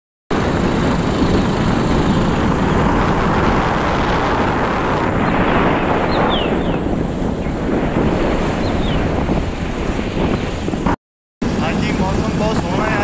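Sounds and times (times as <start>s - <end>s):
wind buffeting microphone: 0.3s - 13.0s.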